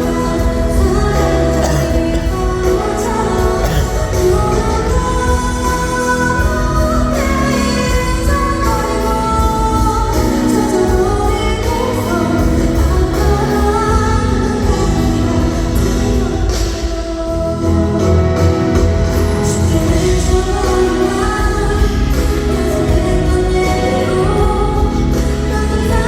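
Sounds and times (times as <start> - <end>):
pop band accompaniment: 0.0 - 26.0
woman singing: 0.0 - 26.0.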